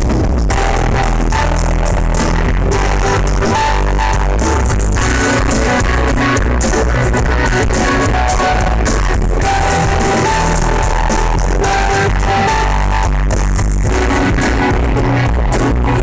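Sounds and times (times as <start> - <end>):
bass guitar: 0.0 - 16.0
drum kit playing: 0.0 - 16.0
electric guitar: 0.0 - 16.0.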